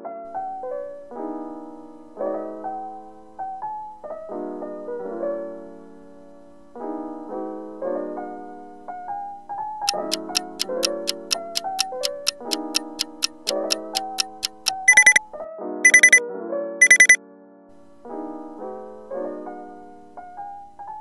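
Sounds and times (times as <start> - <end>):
gentle piano melody: 0.0 - 16.2, 17.8 - 21.0.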